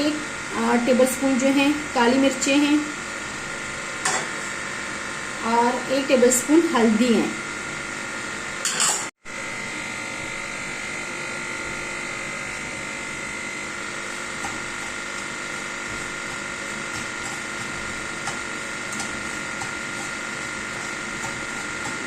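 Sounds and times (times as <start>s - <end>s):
electric motor hum with whine: 0.0s - 22.0s.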